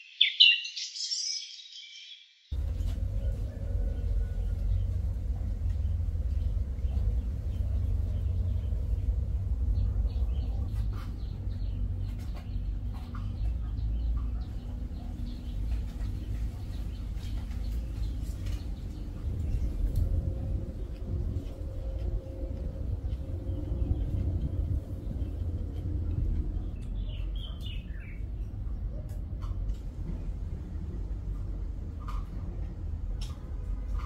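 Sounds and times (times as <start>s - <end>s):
steady low rumble: 2.5s - 34.0s.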